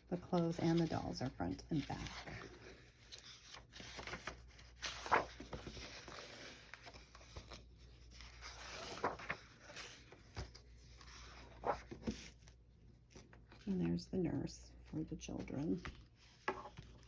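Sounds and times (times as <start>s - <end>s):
paper pages rustling: 0.1s - 13.8s, 15.4s - 17.0s.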